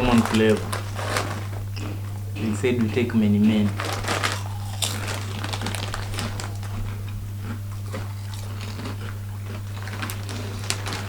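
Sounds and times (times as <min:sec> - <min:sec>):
crisps crunching: 0:00.0 - 0:11.0
low electrical hum: 0:00.0 - 0:11.0.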